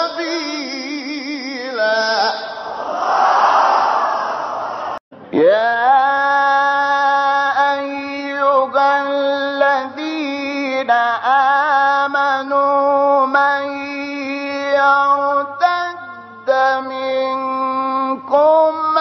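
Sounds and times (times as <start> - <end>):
man chanting recitation: 0.0 - 2.6, 5.3 - 19.0.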